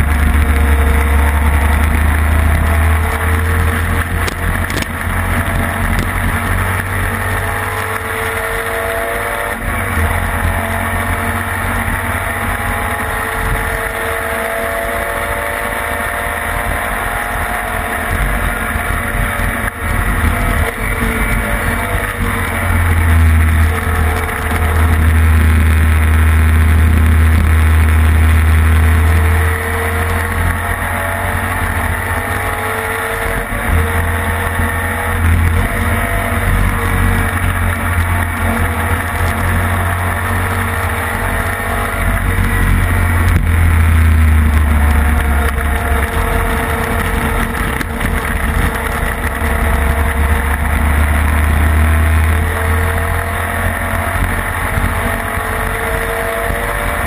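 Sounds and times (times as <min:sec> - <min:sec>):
racing engine at high revs: 0:00.0 - 0:57.0.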